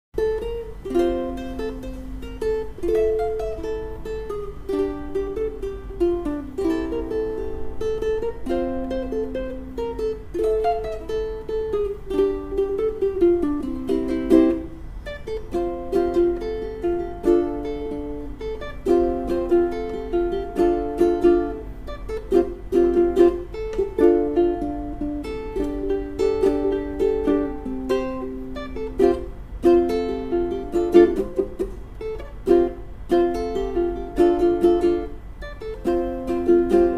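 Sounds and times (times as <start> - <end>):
ukulele melody: 0.2 - 36.9.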